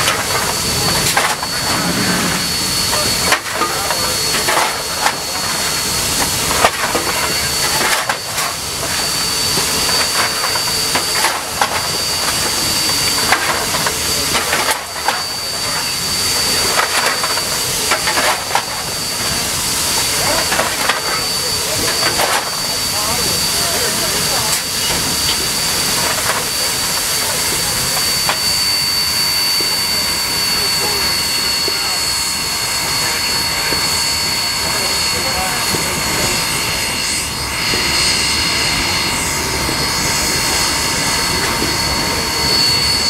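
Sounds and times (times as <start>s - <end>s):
steam hissing: 0.0s - 43.0s.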